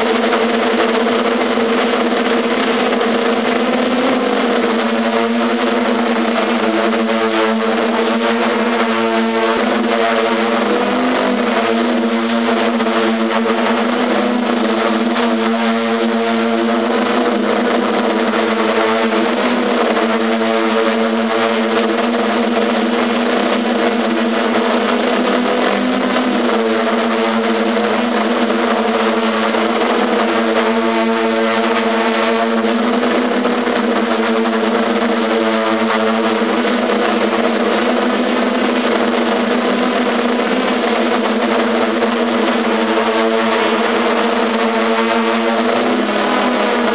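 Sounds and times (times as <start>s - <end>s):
drone propellers buzzing: 0.0s - 46.9s.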